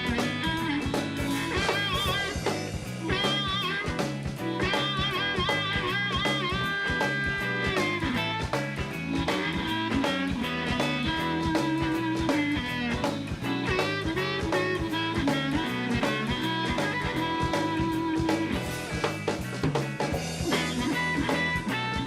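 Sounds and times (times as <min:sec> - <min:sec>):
blues band playing: 0:00.0 - 0:22.0.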